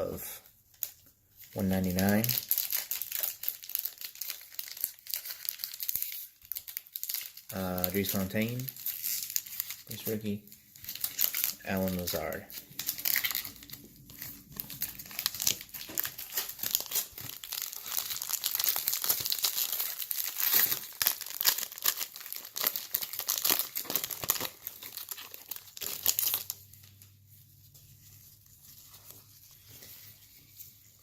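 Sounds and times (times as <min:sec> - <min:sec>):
foil wrapper crinkling: 0:00.7 - 0:31.0.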